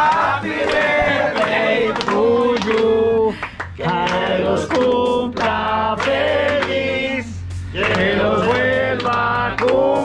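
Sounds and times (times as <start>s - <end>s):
people singing a celebration song: 0.0s - 10.0s.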